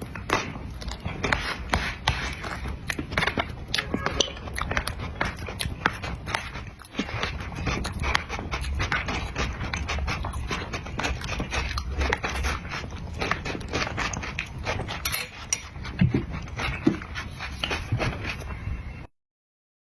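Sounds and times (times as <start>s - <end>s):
wet licking and chewing: 0.0s - 18.6s.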